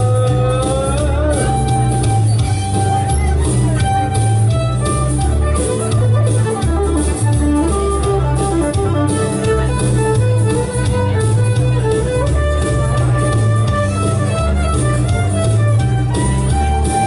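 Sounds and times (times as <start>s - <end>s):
bass line: 0.0s - 17.0s
electric guitar: 0.0s - 17.0s
fiddle: 0.0s - 17.0s.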